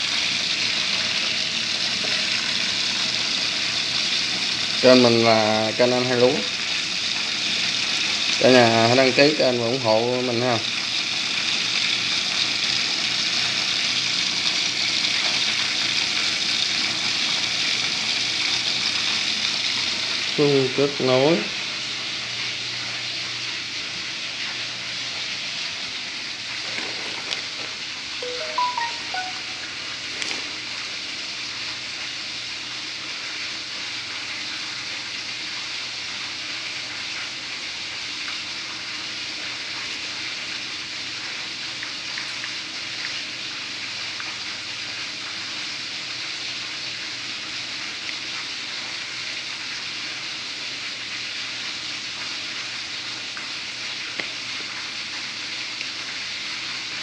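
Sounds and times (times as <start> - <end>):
chicken frying in oil: 0.0 - 57.0.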